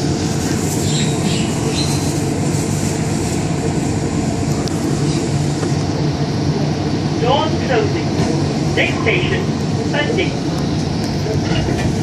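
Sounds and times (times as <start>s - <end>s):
people-mover car hum and rumble: 0.0s - 12.0s.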